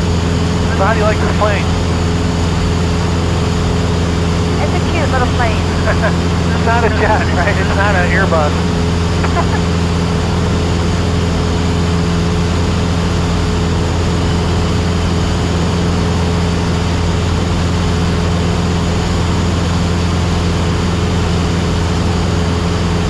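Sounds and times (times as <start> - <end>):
aircraft engine and propeller droning: 0.0 - 23.0.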